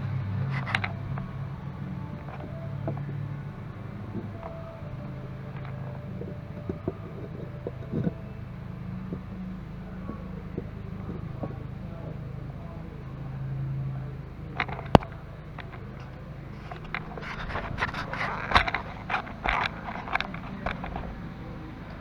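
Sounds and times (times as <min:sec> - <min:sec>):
hard objects clattering: 0:00.0 - 0:22.0
steady low hum: 0:00.0 - 0:22.0.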